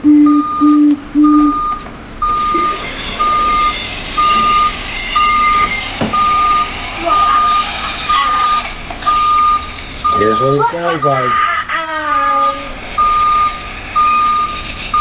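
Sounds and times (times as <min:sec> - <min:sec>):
reversing alarm beeping: 0:00.0 - 0:11.2, 0:13.0 - 0:15.0
machine noise: 0:00.0 - 0:15.0.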